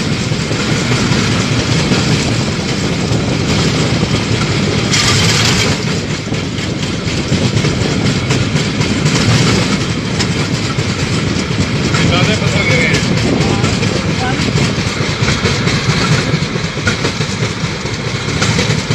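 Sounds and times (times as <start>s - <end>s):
trolley wheels rumbling on rails: 0.0s - 18.9s.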